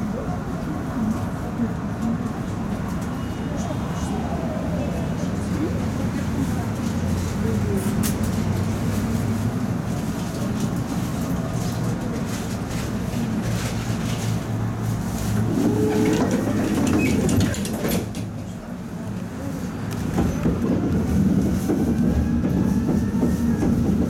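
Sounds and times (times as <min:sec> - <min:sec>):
tram low hum: 0:00.0 - 0:24.0.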